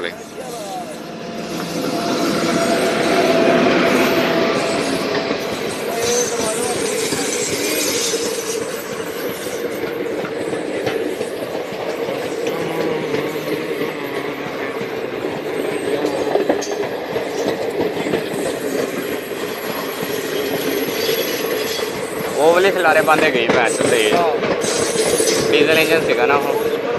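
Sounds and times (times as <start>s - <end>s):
diesel train passing: 0.0s - 26.9s
train wheels on rails: 0.0s - 26.9s.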